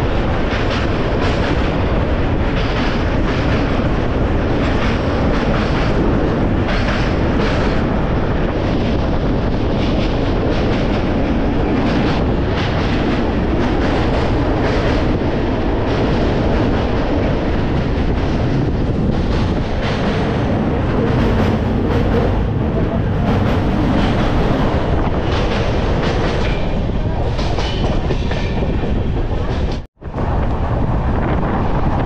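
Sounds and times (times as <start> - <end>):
train wheel and track noise: 0.0 - 32.0.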